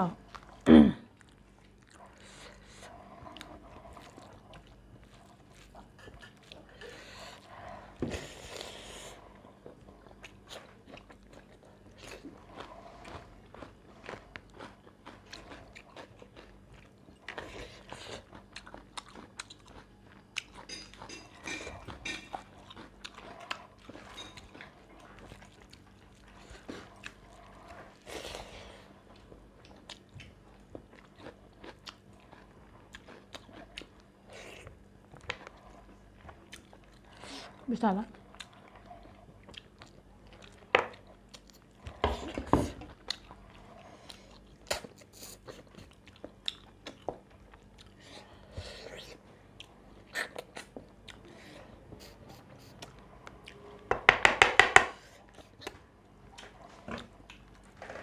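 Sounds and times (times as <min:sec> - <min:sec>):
chewing and crunchy bites: 0:00.2 - 0:53.8.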